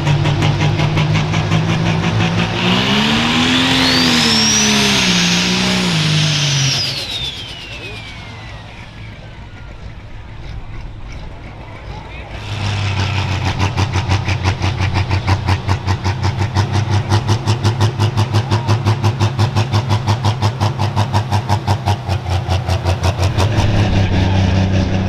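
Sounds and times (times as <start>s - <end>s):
tractor engine idling: 0.0s - 2.6s, 3.2s - 25.0s.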